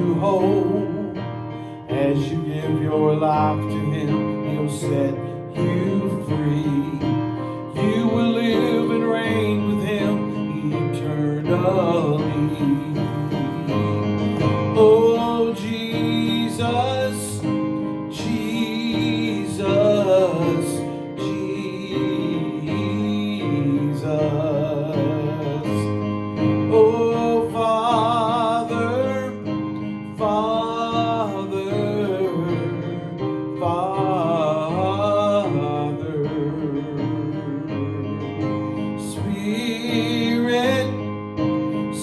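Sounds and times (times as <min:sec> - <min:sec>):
instrumental accompaniment: 0:00.0 - 0:42.0.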